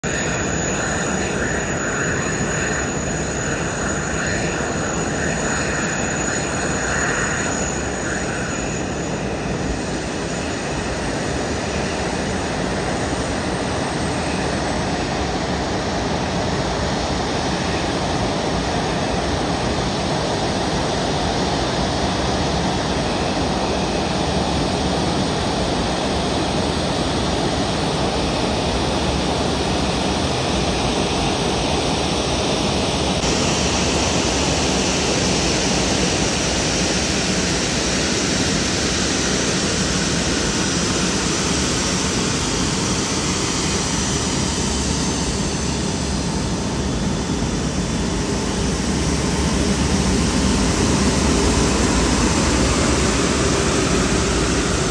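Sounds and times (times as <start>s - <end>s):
jet engines rushing and rumbling: 0.0s - 54.9s
thin high whine: 0.0s - 54.9s.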